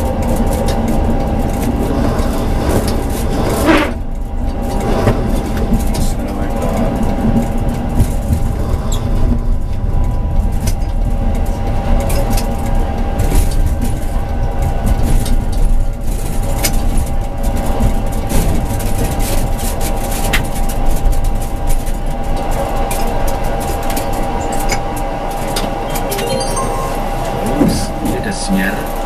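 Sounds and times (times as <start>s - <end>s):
tram rumbling: 0.0s - 29.0s.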